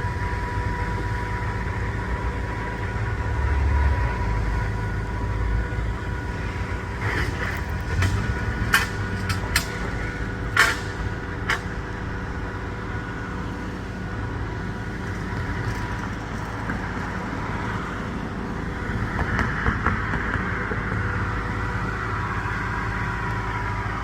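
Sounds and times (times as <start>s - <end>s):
heavy vehicle engine droning: 0.0s - 24.0s.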